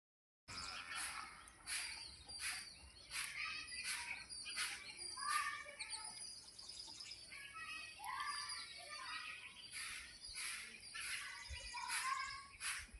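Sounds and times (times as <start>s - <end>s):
birds chirping: 0.5s - 12.9s
whistled bird notes: 0.5s - 12.9s.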